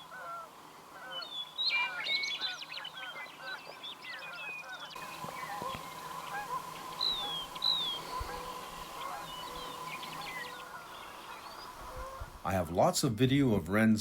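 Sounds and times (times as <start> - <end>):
chorus of bird calls: 0.0 - 12.6.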